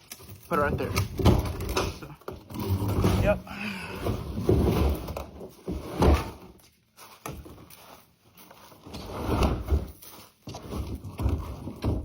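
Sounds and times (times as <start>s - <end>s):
objects knocking and clunking: 0.0s - 7.9s, 8.5s - 12.0s.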